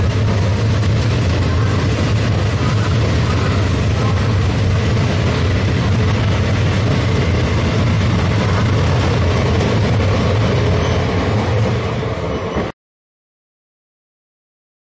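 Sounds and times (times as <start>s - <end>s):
train wheels rumbling on rails: 0.0s - 12.7s.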